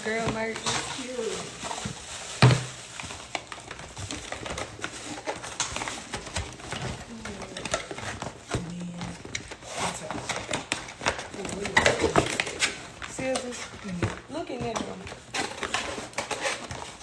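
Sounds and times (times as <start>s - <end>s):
packaging clicks and taps: 0.0s - 17.0s.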